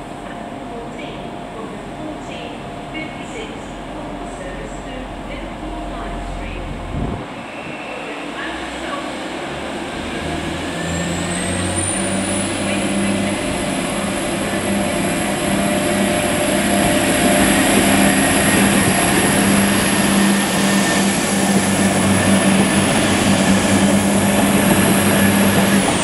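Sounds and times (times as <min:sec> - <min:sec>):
train diesel engines running: 0:00.0 - 0:26.0.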